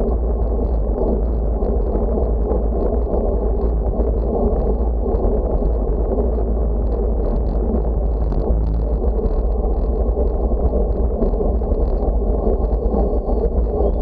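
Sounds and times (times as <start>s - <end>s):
low road rumble: 0.0s - 14.0s
wind on microphone: 0.0s - 14.0s.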